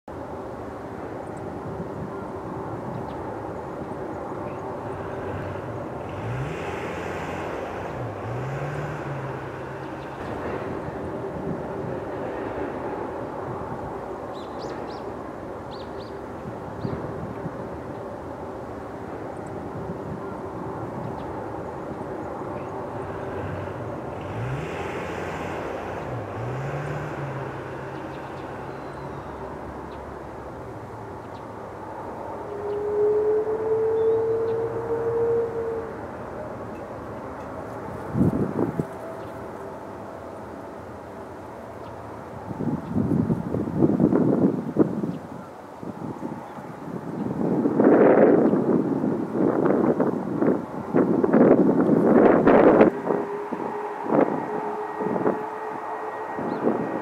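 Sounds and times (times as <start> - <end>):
jet engines rumbling: 0.1 - 57.0.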